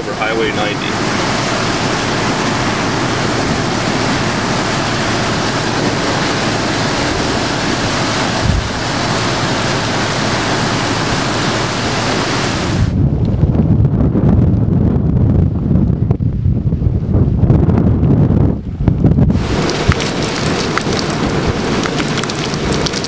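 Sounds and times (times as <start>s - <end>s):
gusty wind buffeting microphone: 0.0s - 23.0s
wind driving heavy rain: 0.0s - 23.0s.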